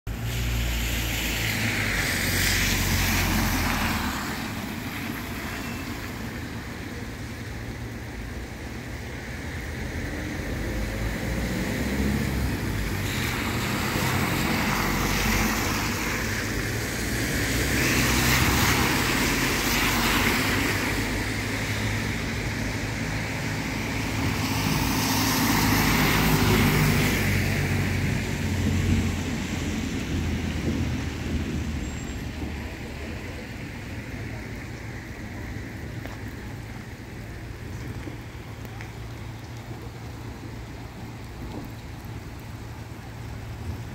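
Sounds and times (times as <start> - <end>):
rain patter: 0.1 - 43.9
tyres hissing through water: 0.1 - 43.9.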